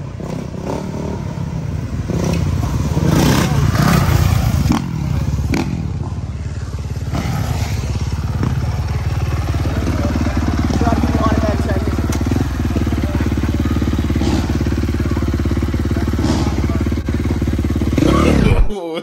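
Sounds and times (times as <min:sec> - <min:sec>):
dirt bikes racing past: 0:00.0 - 0:18.5.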